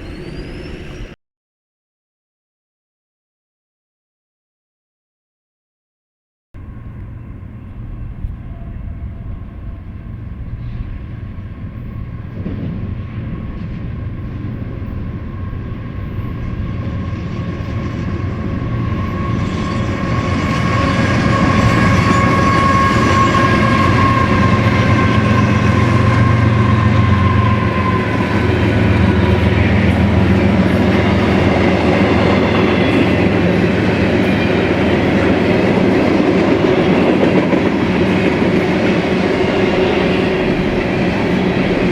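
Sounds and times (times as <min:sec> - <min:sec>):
freight train passing: 0:00.0 - 0:01.2, 0:06.6 - 0:41.9.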